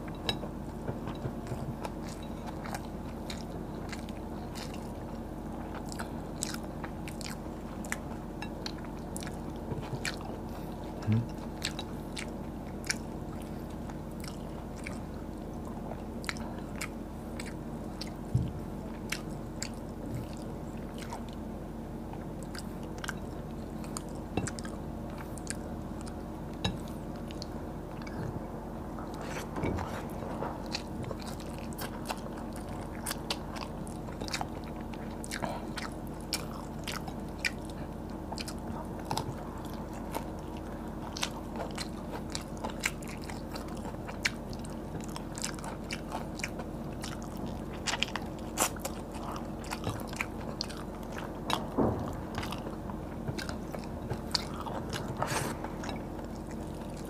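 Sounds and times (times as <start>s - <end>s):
chewing with crisp crunches: 0.0s - 57.0s
steady low hum: 0.0s - 57.0s.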